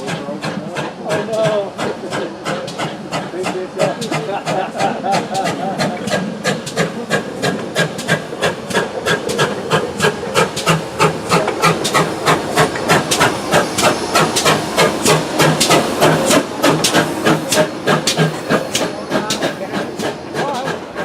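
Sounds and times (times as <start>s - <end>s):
steam locomotive exhaust beating: 0.0s - 21.0s.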